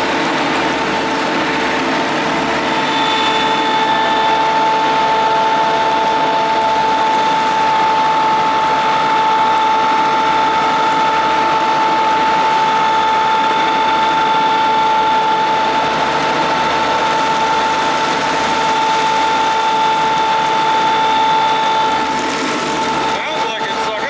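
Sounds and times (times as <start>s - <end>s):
diesel engine running: 0.0s - 24.0s
steady whine: 0.0s - 24.0s.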